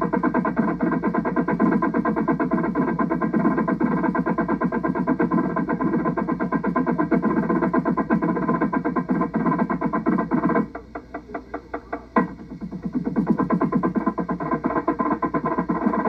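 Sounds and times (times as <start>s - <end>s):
drumline playing fast cadence: 0.0s - 16.0s.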